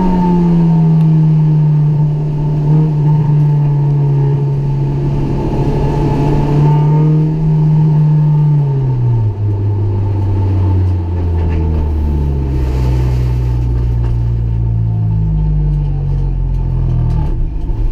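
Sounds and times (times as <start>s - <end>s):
car engine from inside cabin: 0.0s - 17.9s.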